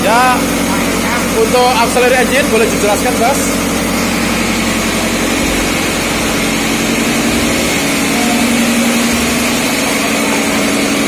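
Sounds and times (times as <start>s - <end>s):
diesel engines drone: 0.0s - 11.0s.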